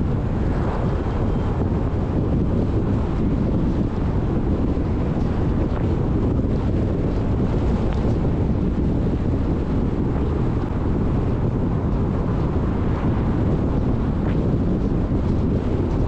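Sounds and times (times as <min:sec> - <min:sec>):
car road and tyre noise: 0:00.0 - 0:16.0
wind rumble on microphone: 0:00.0 - 0:16.0.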